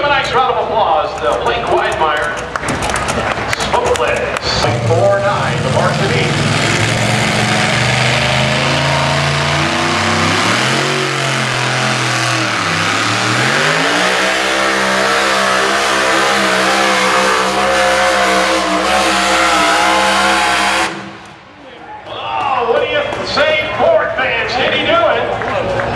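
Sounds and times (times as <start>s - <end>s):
truck engine at full throttle: 0.0s - 21.6s.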